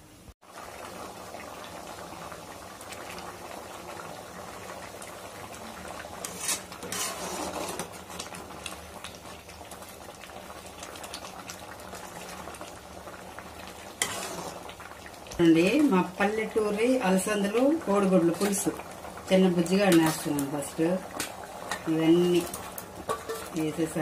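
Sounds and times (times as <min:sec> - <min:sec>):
curry bubbling in a pot: 0:00.4 - 0:24.0.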